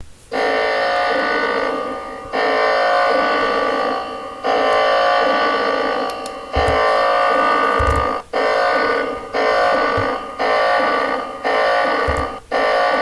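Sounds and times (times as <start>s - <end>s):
electronic alarm buzzer: 0.3s - 13.0s.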